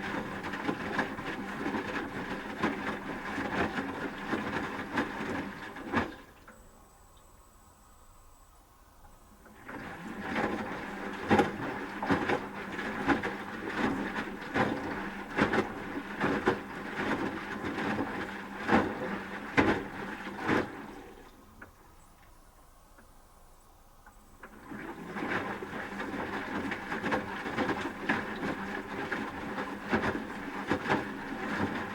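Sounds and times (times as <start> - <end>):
laundry and water tumbling: 0.0 - 6.7, 9.0 - 22.0, 23.8 - 31.9
washing machine motor hum: 0.0 - 23.1, 23.8 - 31.9.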